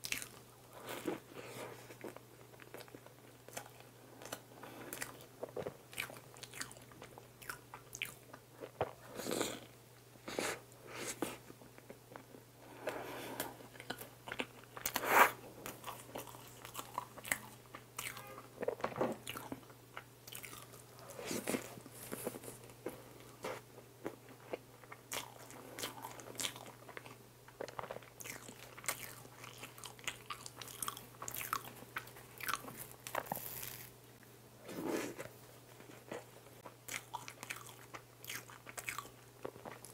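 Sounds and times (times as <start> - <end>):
person chewing soft bread: 0.0 - 33.9, 34.7 - 39.9.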